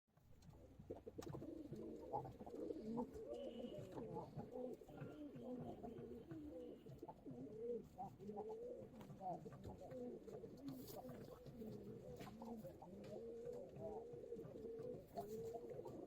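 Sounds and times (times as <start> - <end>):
pigeons cooing: 0.4 - 16.0.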